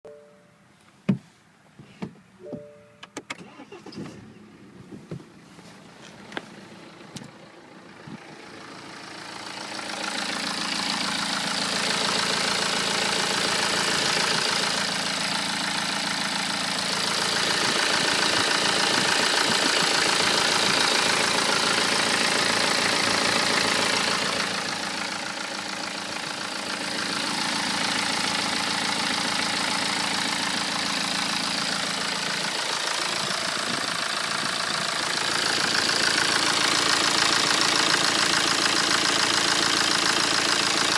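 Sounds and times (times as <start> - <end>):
diesel engine idling: 5.4 - 40.9.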